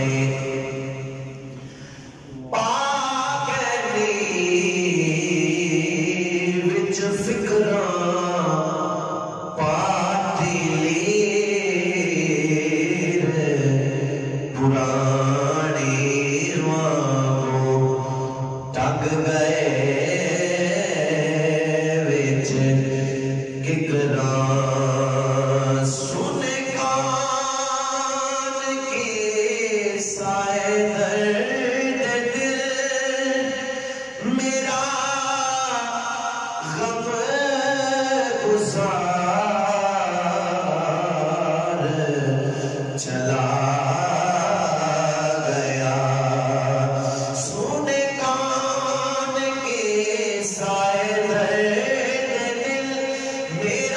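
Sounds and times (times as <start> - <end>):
man singing unaccompanied: 0.0 - 1.6, 2.3 - 53.9.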